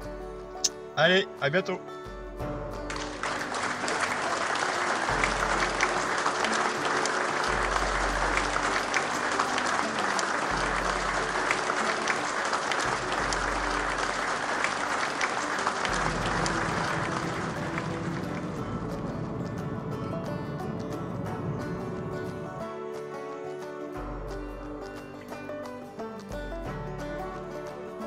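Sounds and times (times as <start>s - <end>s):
background music with low bass: 0.0s - 28.0s
crowd applauding: 2.8s - 28.0s.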